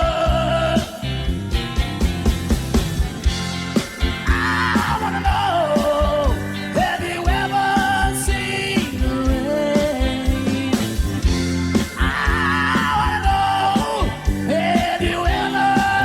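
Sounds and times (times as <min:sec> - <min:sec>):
live rock band playing: 0:00.0 - 0:16.0
steady drum beat: 0:00.0 - 0:16.0.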